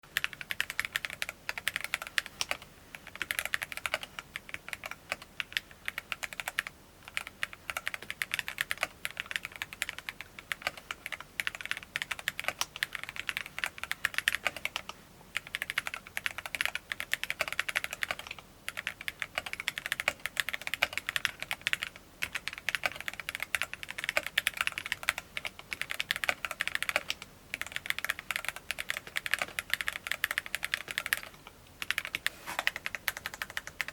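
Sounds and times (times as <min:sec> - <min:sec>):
mechanical keyboard typing: 0:00.2 - 0:33.9.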